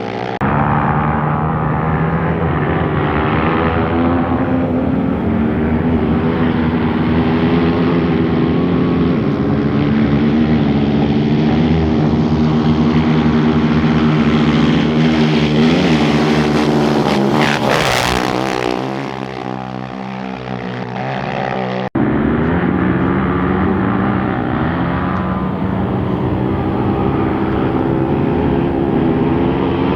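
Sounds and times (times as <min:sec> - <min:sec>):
motorcycle engine passing by: 0:00.5 - 0:11.3, 0:11.9 - 0:29.9.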